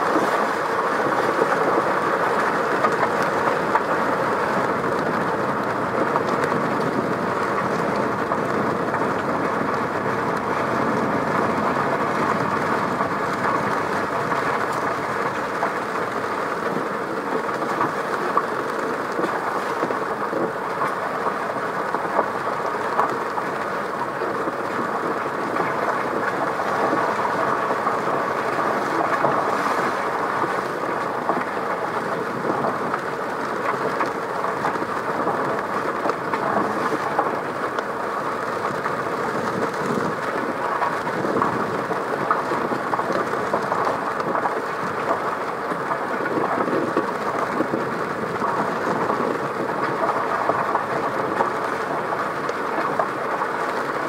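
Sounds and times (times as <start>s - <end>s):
rain on car: 0.0s - 54.0s
tyres on wet road: 0.0s - 54.0s.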